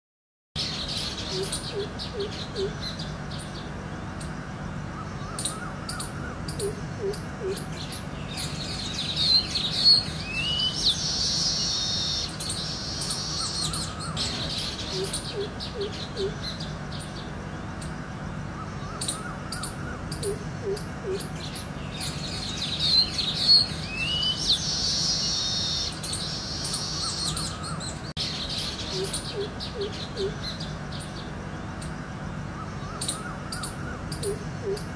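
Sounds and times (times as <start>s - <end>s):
low bird call: 0.6s - 3.1s, 4.8s - 17.2s, 18.5s - 31.1s, 32.4s - 34.9s
birds chirping and trilling: 0.6s - 34.9s.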